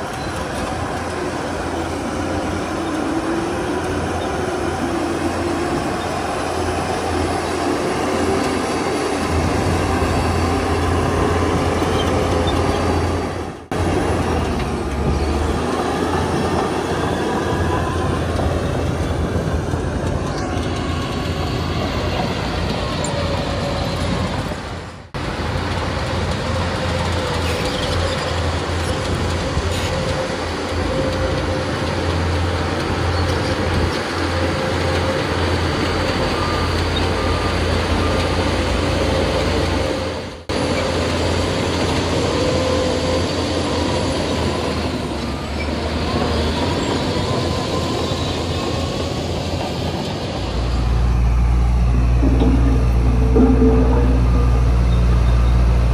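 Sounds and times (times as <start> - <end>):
crawler tracks squealing and clanking: 0.0 - 24.8, 25.6 - 55.9
bulldozer diesel engine: 0.0 - 55.9.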